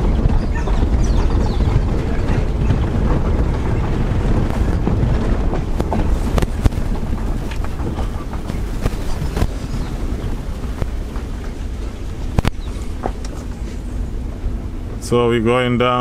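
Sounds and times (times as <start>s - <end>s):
sharp knocks or rattles: 0.0s - 13.8s
engine and road rumble: 0.0s - 16.0s
wind buffeting microphone: 0.0s - 16.0s.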